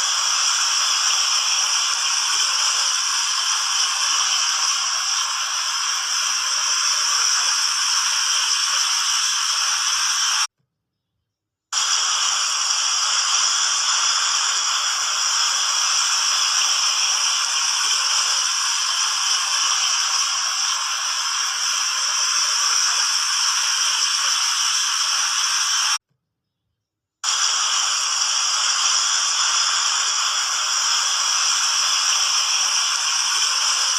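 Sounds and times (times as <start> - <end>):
water fountain spray hissing: 0.0 - 10.5, 11.8 - 26.0, 27.2 - 33.9.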